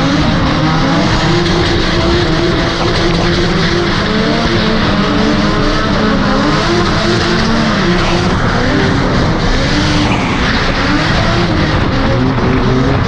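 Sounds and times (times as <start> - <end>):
car engine revving: 0.0 - 13.0
road and wind noise: 0.0 - 13.0.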